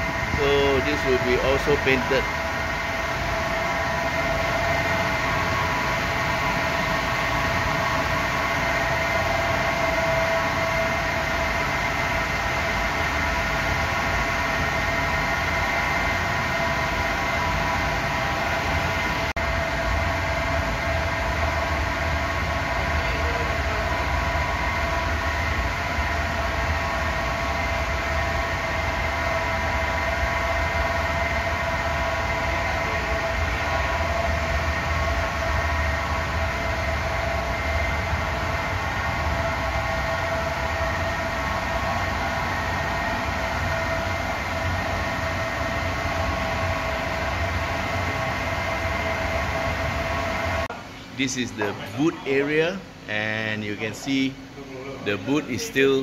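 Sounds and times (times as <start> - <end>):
machine drone: 0.0 - 56.0.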